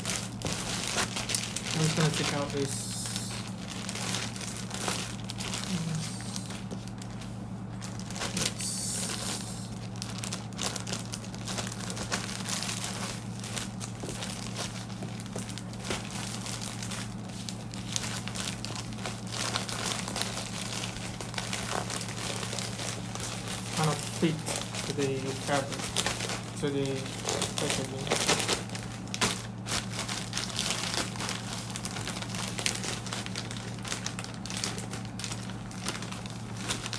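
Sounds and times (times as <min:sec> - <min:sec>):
paper sheets rustling: 0:00.0 - 0:36.9
plastic bag crinkling: 0:00.0 - 0:36.9
steady low hum: 0:00.0 - 0:36.9.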